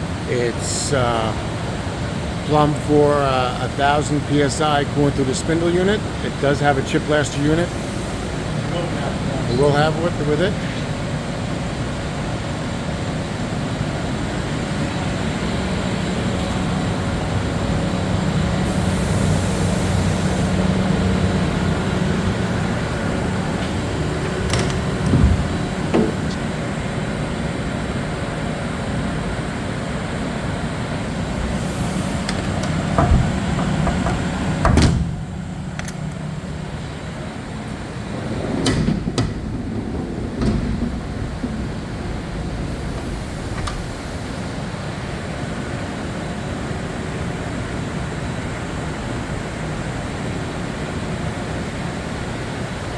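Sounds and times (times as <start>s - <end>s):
milling machine mechanical hum: 0.0s - 52.9s.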